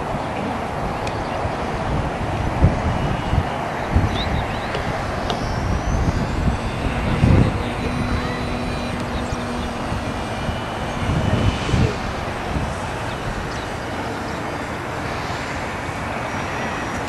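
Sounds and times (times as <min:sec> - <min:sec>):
model plane engine droning: 0:00.0 - 0:17.0
wind buffeting microphone: 0:00.0 - 0:17.0.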